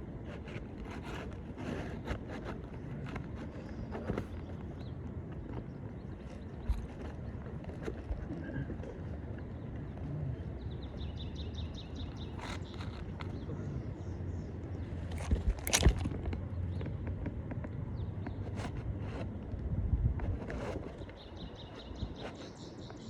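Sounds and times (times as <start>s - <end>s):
knocks and scraping on shingle roof: 0.0s - 13.7s, 14.8s - 19.6s.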